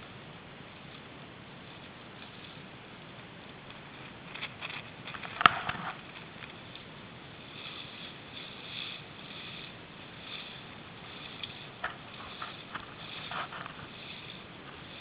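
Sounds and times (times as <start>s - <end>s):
crackles: 0.0s - 15.0s
soft rushing hiss: 0.0s - 15.0s.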